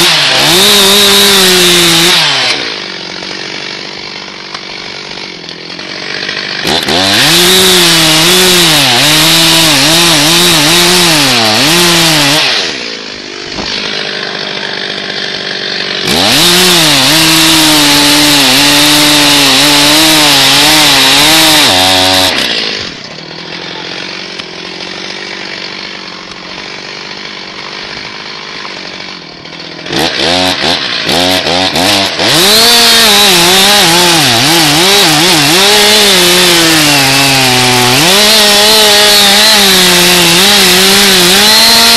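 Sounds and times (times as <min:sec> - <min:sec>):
chainsaw cutting wood: 0:00.0 - 0:41.9
chainsaw idling: 0:00.0 - 0:41.9
chainsaw throttle blips: 0:00.0 - 0:41.9.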